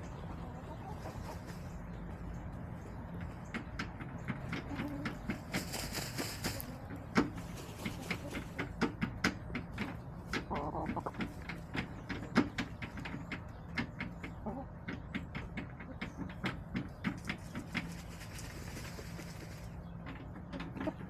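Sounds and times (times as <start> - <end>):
hens pecking at food: 0.0 - 21.0.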